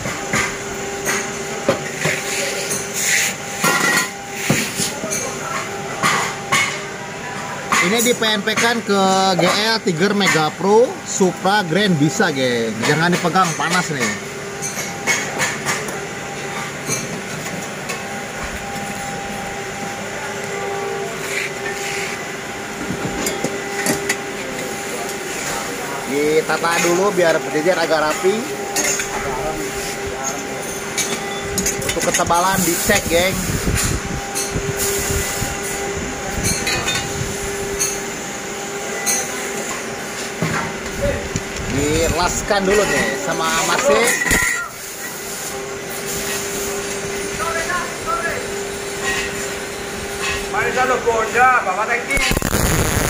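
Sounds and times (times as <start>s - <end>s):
steady machine hum: 0.0s - 44.0s, 44.8s - 53.0s.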